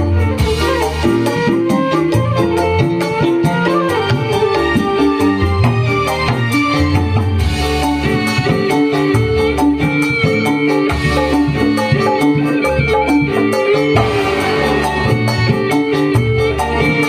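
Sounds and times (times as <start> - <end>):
bass and drums beat: 0.0 - 17.0
held melody notes: 0.0 - 17.0
live band playing: 0.0 - 17.0.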